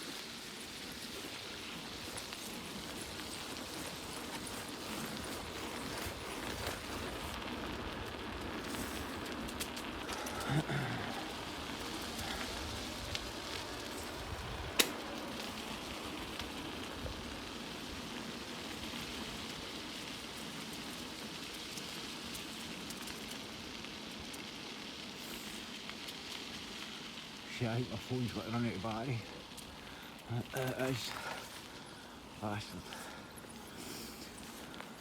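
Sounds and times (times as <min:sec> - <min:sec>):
bicycle riding along a path: 0:00.0 - 0:35.0.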